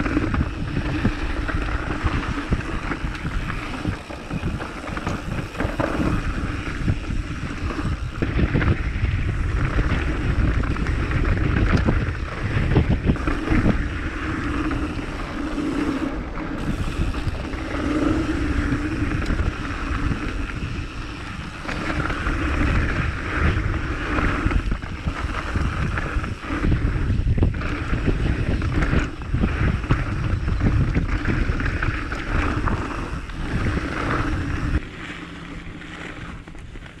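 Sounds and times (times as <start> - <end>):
steady rushing noise: 0.0 - 37.0
wind buffeting microphone: 0.0 - 37.0.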